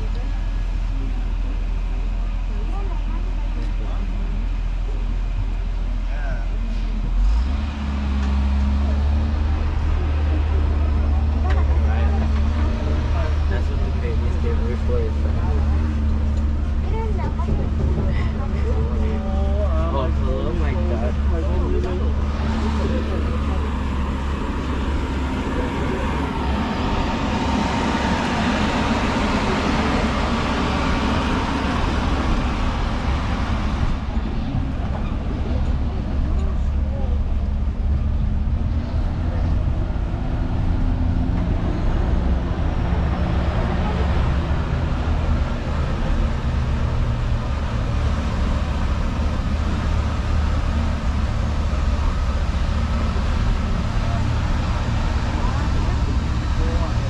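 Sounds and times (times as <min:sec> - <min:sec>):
low engine drone: 0:00.0 - 0:57.0
road noise: 0:00.0 - 0:57.0
tram motor and wheels rumbling: 0:00.0 - 0:57.0.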